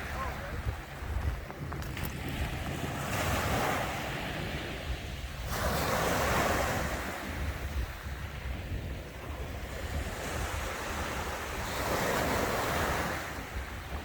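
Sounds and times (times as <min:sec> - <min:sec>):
sea waves breaking on shore: 0:00.0 - 0:14.0
wind rumble on microphone: 0:00.0 - 0:14.0.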